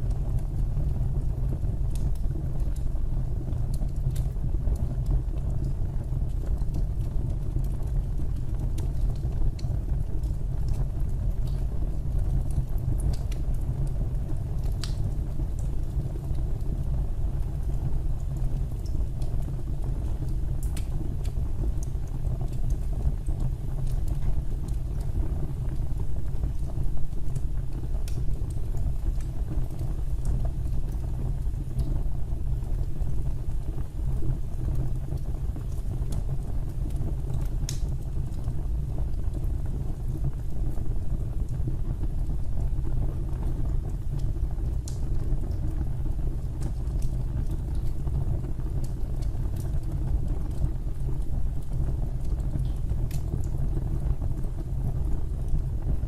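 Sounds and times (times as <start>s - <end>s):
fire burning in fireplace: 0.0s - 56.0s
fire crackling and popping: 0.0s - 56.0s.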